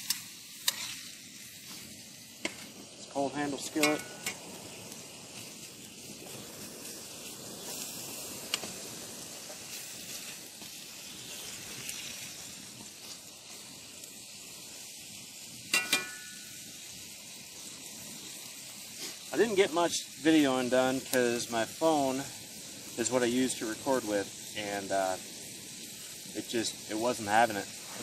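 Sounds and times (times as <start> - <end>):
bacon and eggs sizzling: 0.0 - 28.0.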